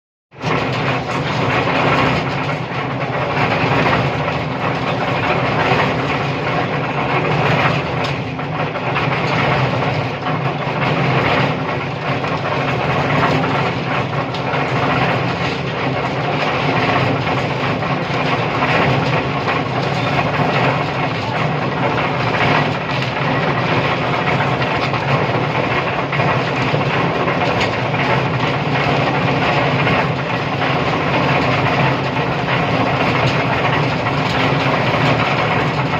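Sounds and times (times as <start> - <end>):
irregular clatter: 0.3 - 35.9
engine-driven machine droning: 0.4 - 35.9.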